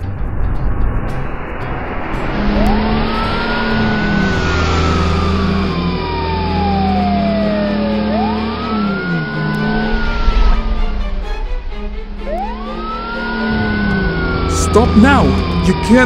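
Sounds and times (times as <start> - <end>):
vehicle engine noise: 0.0 - 16.0
wailing siren: 1.1 - 16.0.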